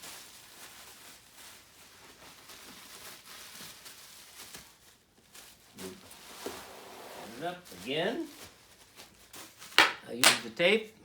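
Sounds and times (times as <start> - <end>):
bubble wrap rustling and crinkling: 0.0 - 10.7.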